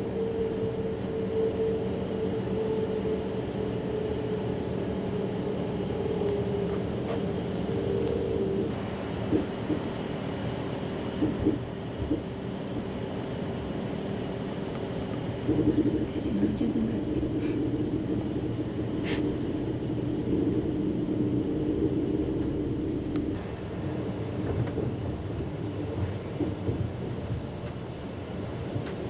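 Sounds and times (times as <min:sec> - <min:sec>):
train rumbling with droning tone: 0:00.0 - 0:29.0.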